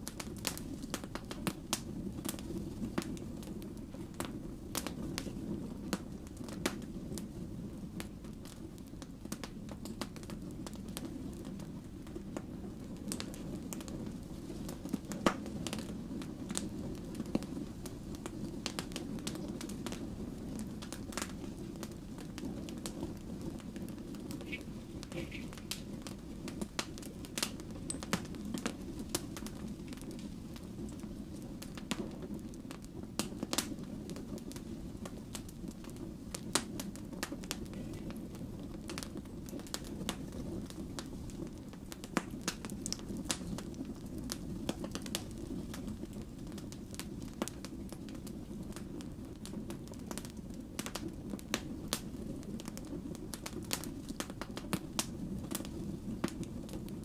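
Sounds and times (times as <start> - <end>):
logs crackling and popping: 0.0 - 57.0
low rumble of flames: 0.0 - 57.0.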